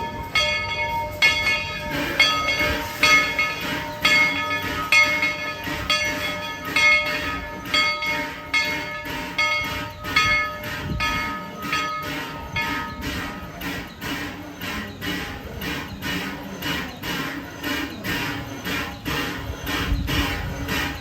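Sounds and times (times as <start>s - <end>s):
locomotive bell ringing: 0.0s - 21.0s.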